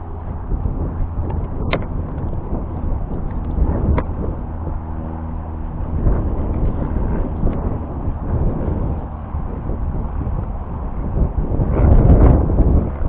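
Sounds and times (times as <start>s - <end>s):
faint hum: 0.0s - 13.0s
wind buffeting microphone: 0.0s - 13.0s.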